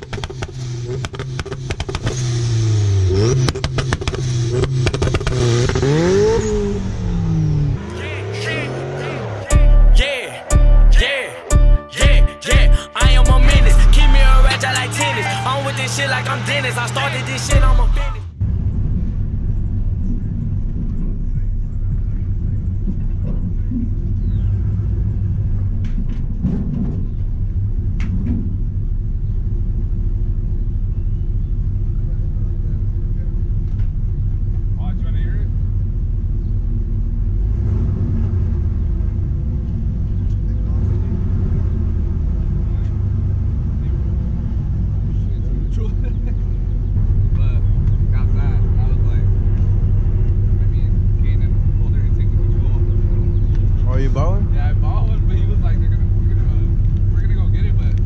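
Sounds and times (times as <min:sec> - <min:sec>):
car engine revving: 0:00.0 - 0:11.7, 0:13.0 - 0:58.0.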